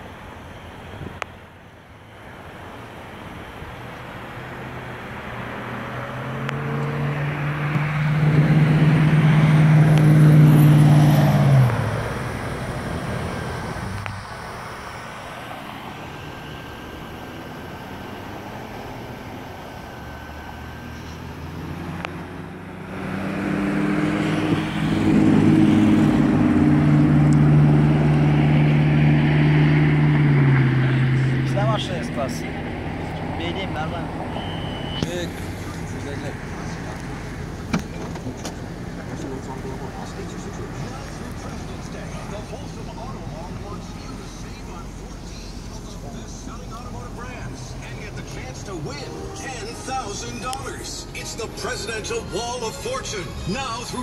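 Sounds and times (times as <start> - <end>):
car engine accelerating: 2.6 - 54.0.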